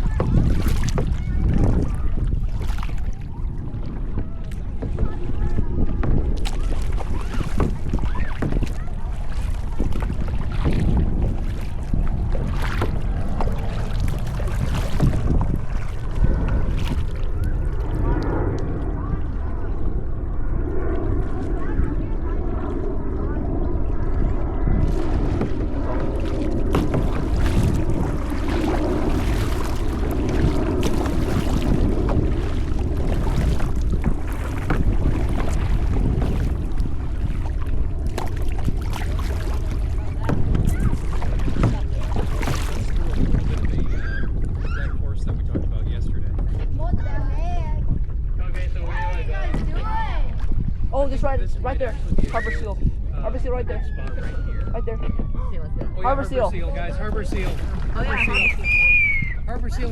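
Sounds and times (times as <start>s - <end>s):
paddle splashing water: 0.0s - 47.2s, 47.9s - 59.9s
wind rumbling on microphone: 0.0s - 59.9s.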